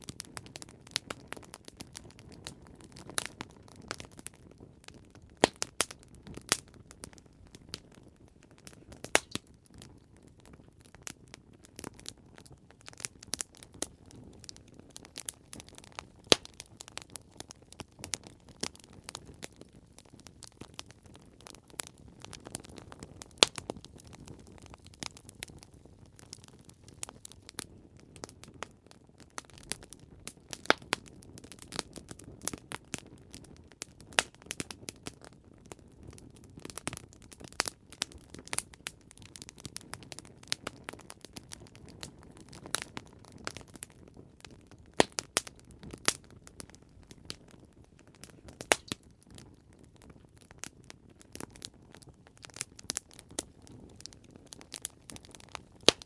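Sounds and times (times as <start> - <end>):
burning wood popping and snapping: 0.0 - 56.0.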